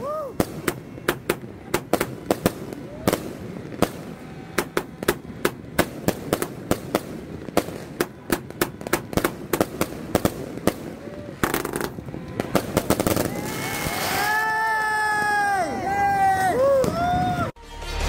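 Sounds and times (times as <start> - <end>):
fireworks bursting in sharp bangs: 0.0 - 17.5.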